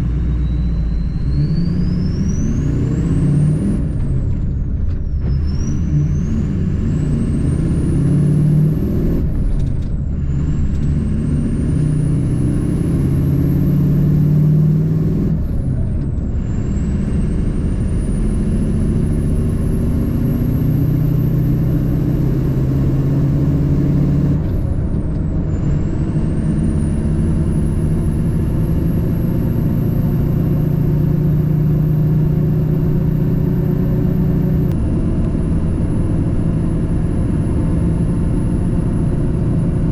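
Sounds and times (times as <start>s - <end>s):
diesel truck engine running: 0.0s - 39.9s
high engine whine: 0.0s - 39.9s.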